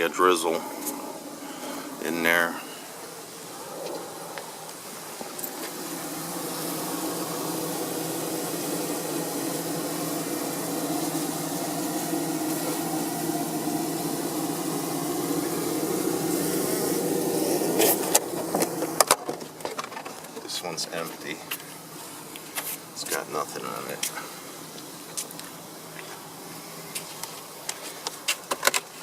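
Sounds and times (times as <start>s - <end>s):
honey bees buzzing: 0.0s - 29.0s.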